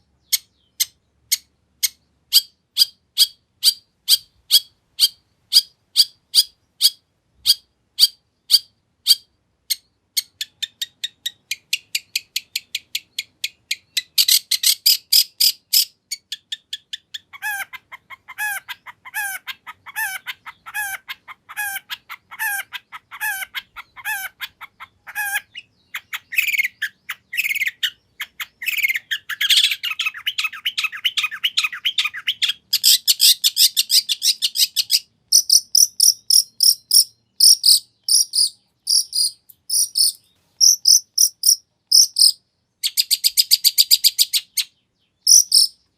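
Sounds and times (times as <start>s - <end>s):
bird singing varied song: 0.0s - 45.9s.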